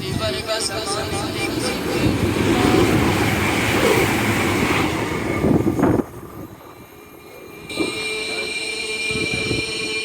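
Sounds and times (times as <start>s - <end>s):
train wheels and motors rumbling: 0.0s - 9.6s.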